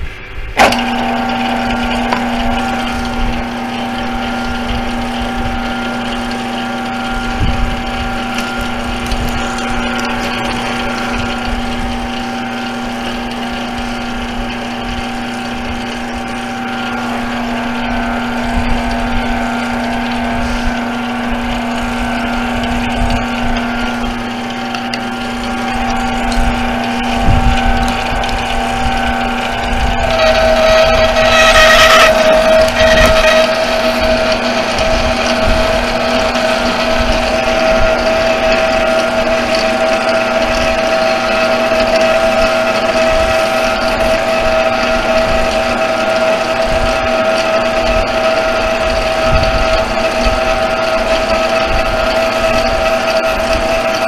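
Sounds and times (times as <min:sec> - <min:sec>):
brake lathe motor humming: 0:00.0 - 0:54.0.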